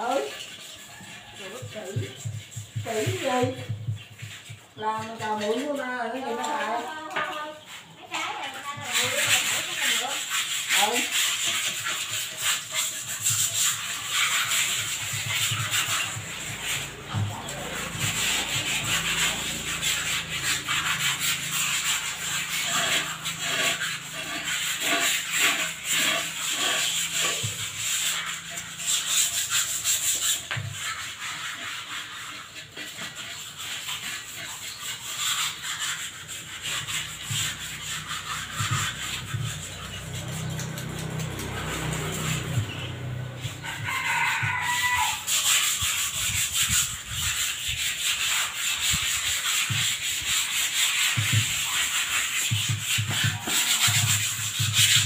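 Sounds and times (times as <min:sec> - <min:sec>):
hand scrubbing cement pots: 0:00.0 - 0:55.0.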